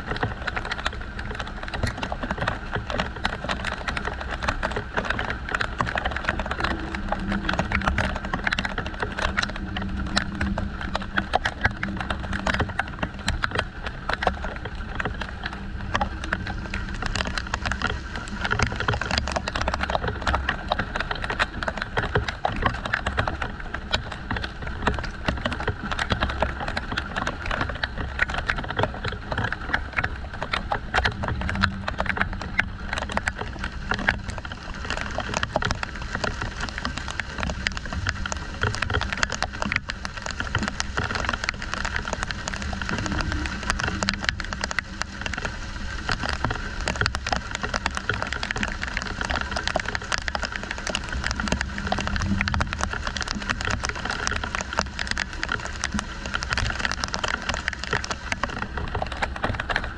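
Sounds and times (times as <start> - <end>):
raindrops pattering: 0.0 - 59.9.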